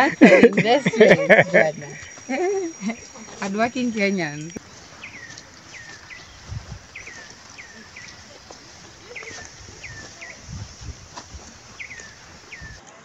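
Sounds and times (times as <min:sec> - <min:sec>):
bird calling with sliding notes: 0:00.0 - 0:12.8.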